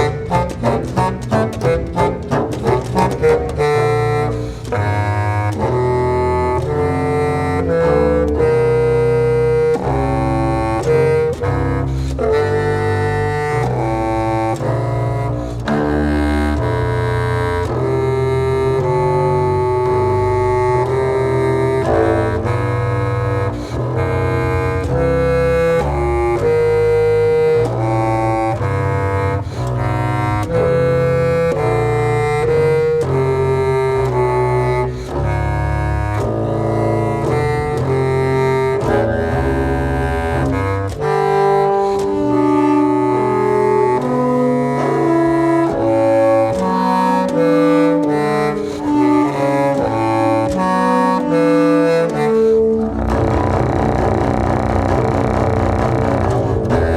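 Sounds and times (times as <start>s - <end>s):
clarinet: 0.0s - 56.9s
double bass: 0.0s - 56.9s.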